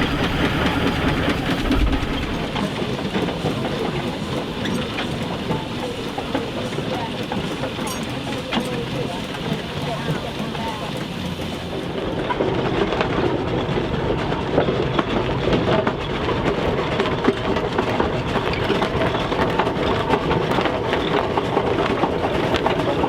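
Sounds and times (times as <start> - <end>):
steam engine clattering: 0.0 - 23.0.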